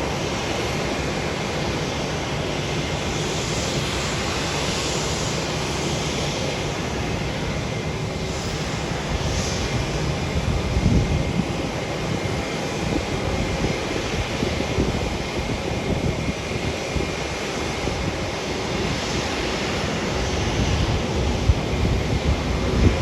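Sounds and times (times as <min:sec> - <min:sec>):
jet aircraft rushing: 0:00.0 - 0:23.0
wind buffeting microphone: 0:00.0 - 0:23.0.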